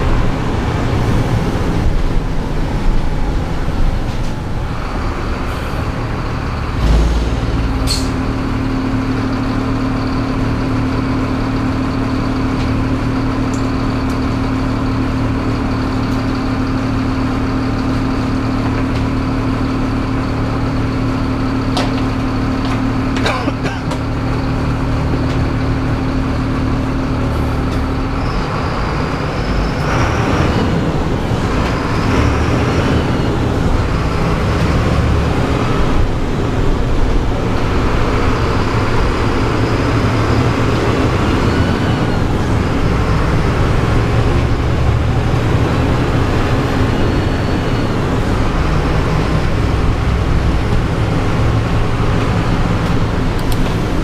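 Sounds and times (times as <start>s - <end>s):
bus diesel engine: 0.0s - 54.0s
tyre noise on wet road: 0.0s - 54.0s.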